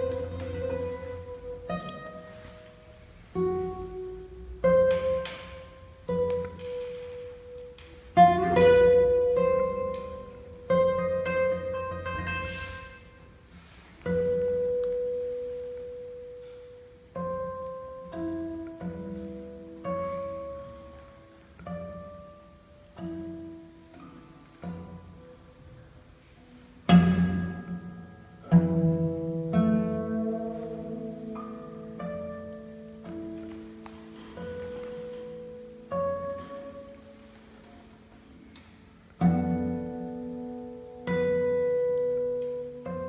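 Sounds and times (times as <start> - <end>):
classical guitar fingerstyle: 0.0 - 43.0.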